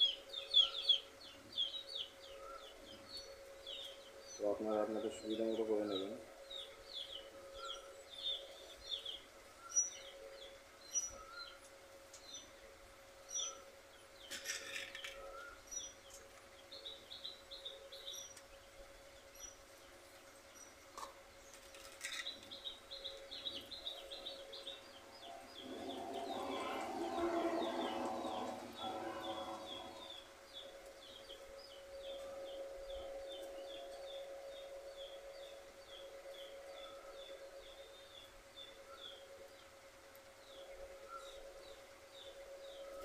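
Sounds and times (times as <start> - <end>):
small birds chirping: 0.0 - 12.6, 13.2 - 43.0
faint steady hum: 0.0 - 43.0.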